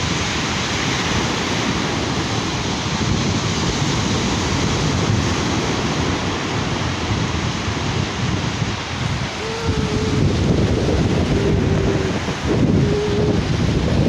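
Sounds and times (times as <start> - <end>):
surf washing on beach: 0.0 - 14.0
wind buffeting microphone: 0.0 - 14.0.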